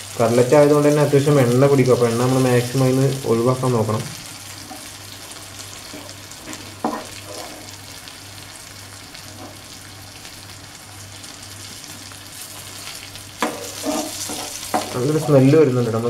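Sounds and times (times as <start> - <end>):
cutlets sizzling in oil: 0.0 - 16.0.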